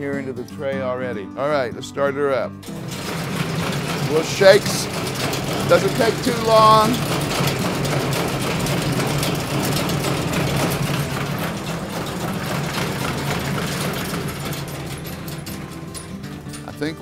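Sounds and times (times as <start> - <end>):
machine hum: 2.6 - 17.0.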